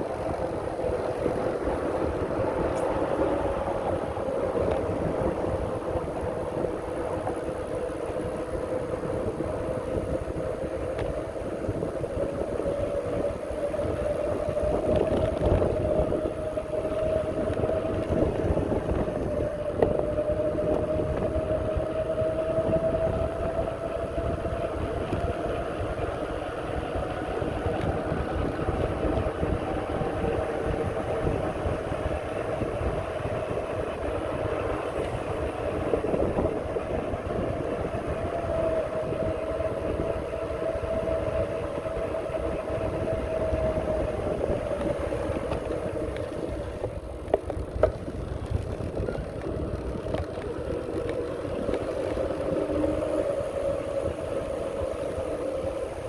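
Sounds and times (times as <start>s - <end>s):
wind rumbling on microphone: 0.0s - 56.0s.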